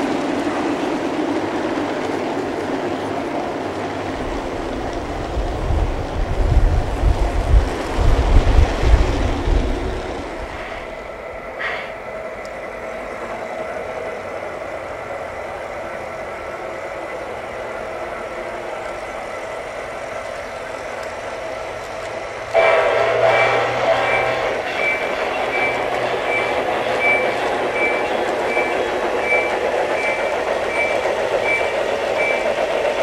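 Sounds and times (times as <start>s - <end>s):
model train cars rumbling: 0.0s - 33.0s
train hum: 0.0s - 33.0s.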